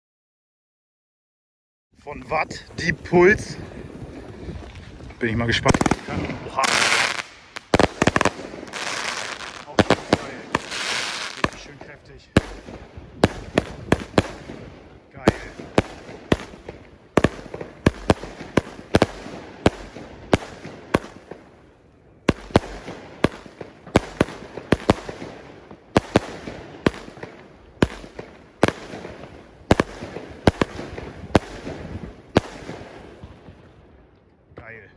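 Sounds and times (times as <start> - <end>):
firework crackling: 2.9 - 33.7
firework bangs: 3.4 - 21.6, 22.2 - 33.8.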